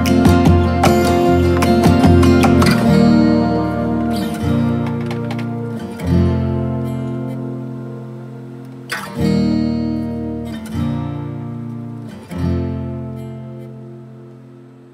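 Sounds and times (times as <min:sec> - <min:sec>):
acoustic guitar strumming chords: 0:00.0 - 0:14.9.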